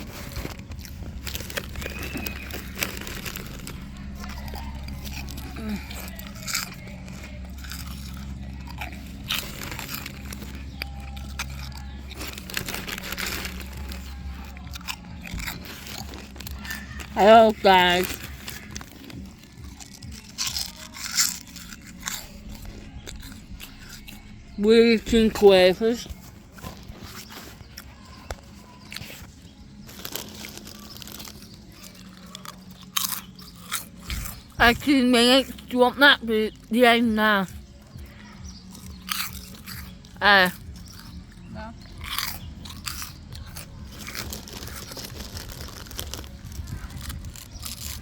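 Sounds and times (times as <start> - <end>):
crisps crunched and chewed: 0.0 - 48.0.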